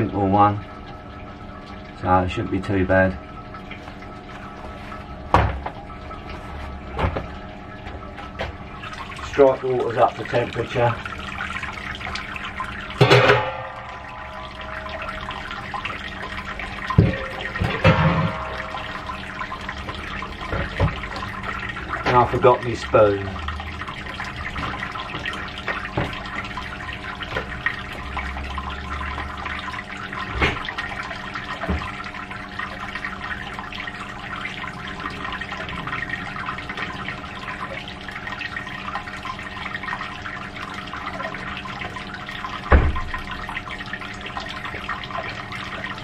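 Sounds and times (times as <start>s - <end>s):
steady hum: 0.0s - 46.0s
water trickling and bubbling: 0.0s - 46.0s.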